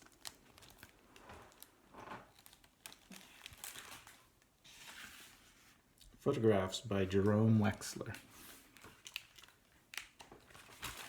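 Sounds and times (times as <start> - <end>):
paper rustling and crinkling: 0.0 - 5.9, 7.6 - 11.0.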